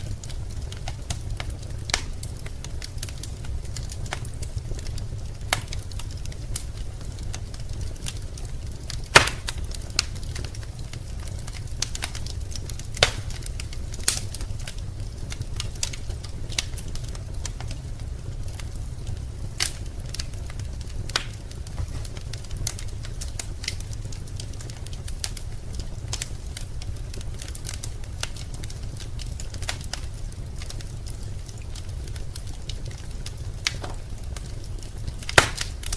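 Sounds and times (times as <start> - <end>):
sharp pops of fire: 0.0 - 35.9
steady low rumble: 0.0 - 35.9
wood fire crackling: 0.0 - 35.9.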